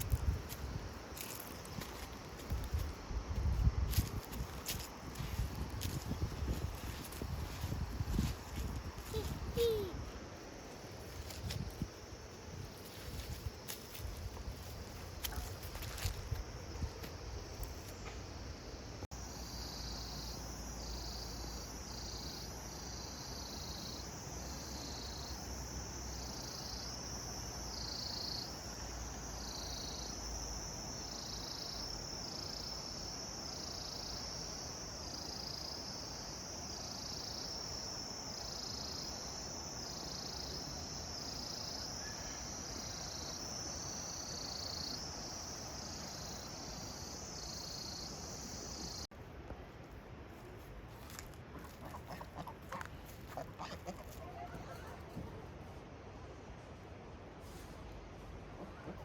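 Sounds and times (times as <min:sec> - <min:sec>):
high-pitched insect trill: 0:00.0 - 0:49.1
pulsing lower insect call: 0:00.0 - 0:49.1.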